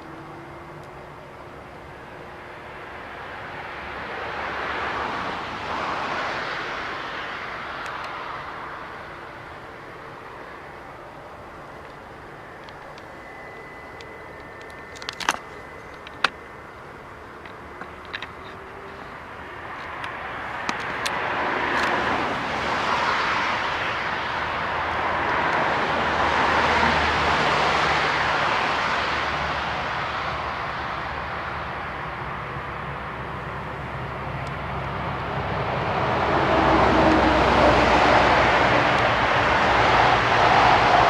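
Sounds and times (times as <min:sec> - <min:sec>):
jet aircraft passing: 0:00.0 - 0:41.0.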